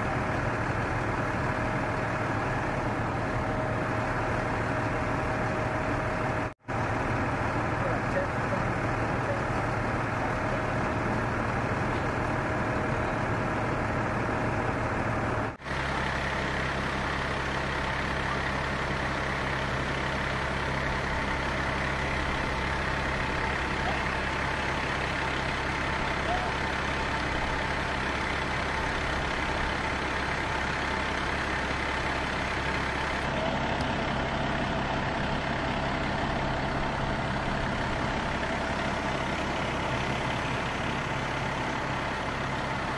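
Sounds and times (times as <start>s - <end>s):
heavy vehicle engine idling: 0.0s - 42.9s.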